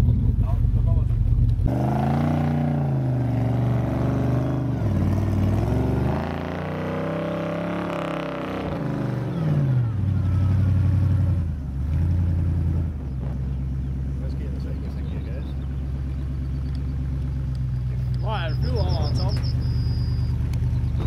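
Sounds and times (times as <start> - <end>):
buggy engine revving: 0.0 - 21.0
low engine hum: 0.0 - 21.0.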